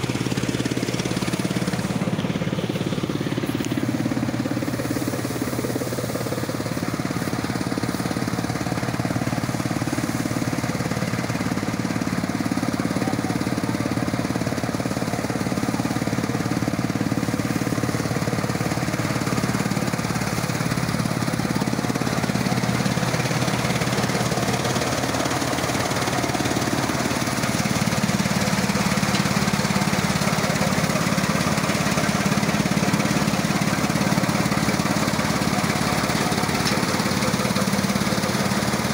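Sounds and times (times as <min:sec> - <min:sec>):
threshing machine running: 0:00.0 - 0:38.9.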